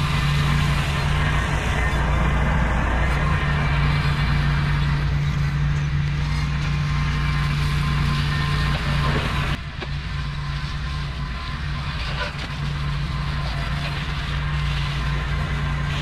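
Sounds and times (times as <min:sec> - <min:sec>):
broad rushing noise: 0:00.0 - 0:16.0
tractor engine running: 0:00.0 - 0:16.0.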